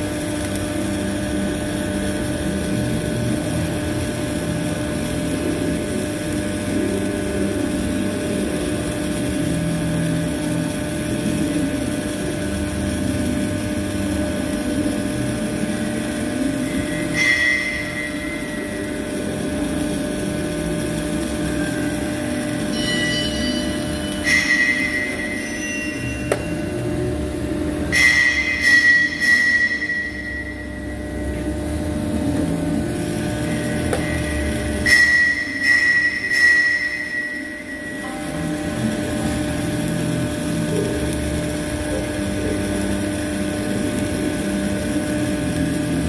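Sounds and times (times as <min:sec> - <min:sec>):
high machine whine: 0:00.0 - 0:46.0
machine droning: 0:00.0 - 0:46.0.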